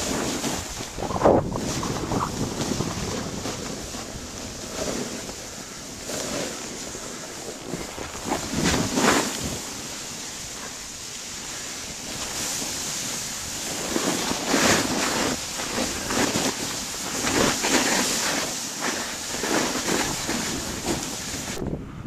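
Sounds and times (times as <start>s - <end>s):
wind buffeting microphone: 0.0s - 11.0s, 11.8s - 22.0s.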